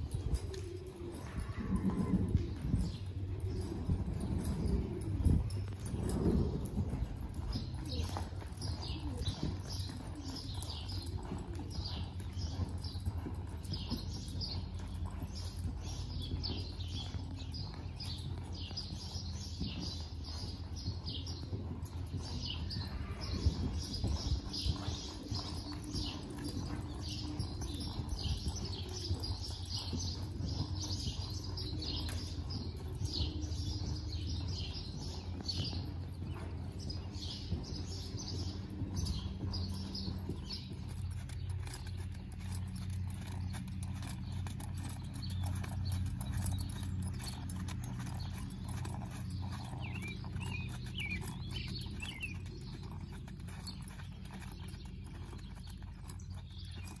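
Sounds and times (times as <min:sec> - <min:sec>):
horse hoofbeats on sand: 0:00.0 - 0:57.0.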